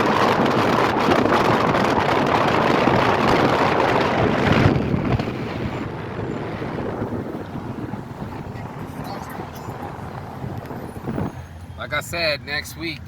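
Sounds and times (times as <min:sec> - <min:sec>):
wind rushing over microphone: 0:00.0 - 0:12.0
vehicle road noise: 0:00.0 - 0:13.0.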